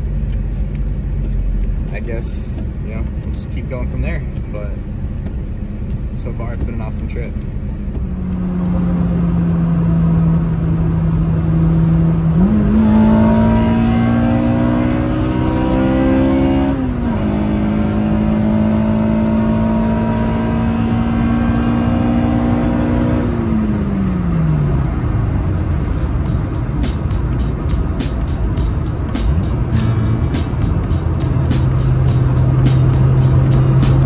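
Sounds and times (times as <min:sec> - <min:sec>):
car engine revving: 0:00.0 - 0:34.0
road noise: 0:00.0 - 0:34.0.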